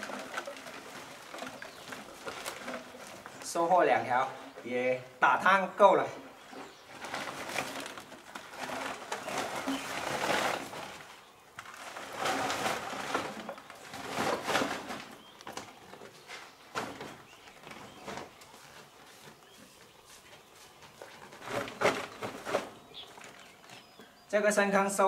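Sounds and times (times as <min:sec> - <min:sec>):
plastic sack rustling: 0:00.0 - 0:04.6, 0:06.4 - 0:24.0
plastic bottles rattling: 0:00.0 - 0:05.0, 0:06.2 - 0:19.6, 0:20.8 - 0:24.2.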